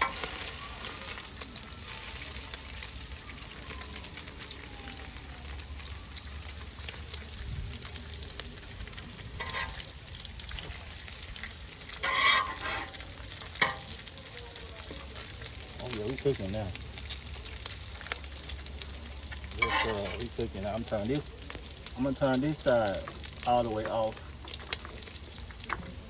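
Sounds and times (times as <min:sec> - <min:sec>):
burger patties sizzling on griddle: 0:00.0 - 0:26.0.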